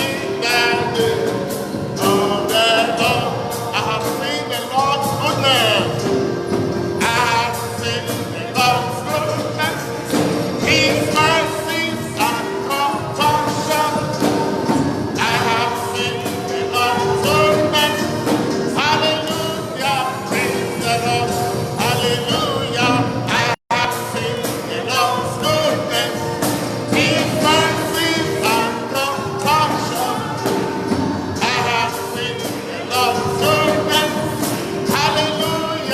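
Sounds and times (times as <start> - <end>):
church worship singing: 0.0 - 35.9.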